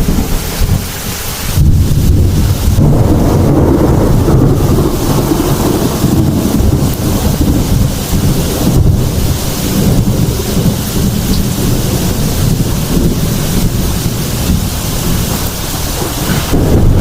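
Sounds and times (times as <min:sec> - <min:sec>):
heavy rain pouring: 0:00.0 - 0:17.0
low thunder rumble: 0:00.0 - 0:17.0.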